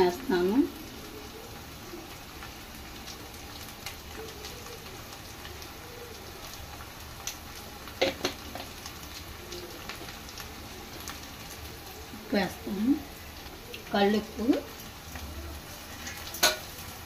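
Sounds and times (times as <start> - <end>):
food frying in oil: 0.0 - 17.0.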